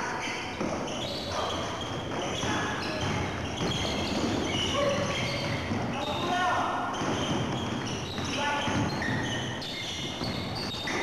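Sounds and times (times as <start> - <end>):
basketball bouncing on court: 0.5 - 11.0.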